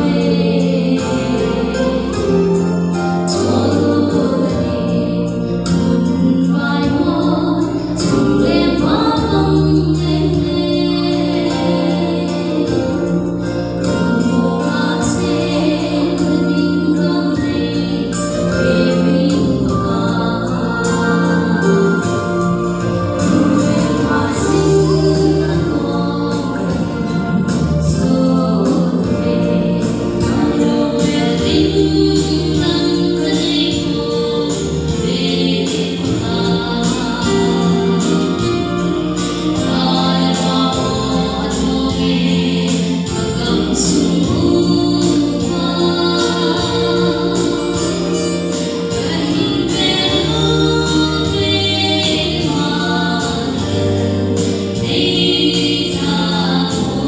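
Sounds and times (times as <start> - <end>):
instrumental accompaniment: 0.0 - 57.0
woman singing gospel song: 0.0 - 57.0.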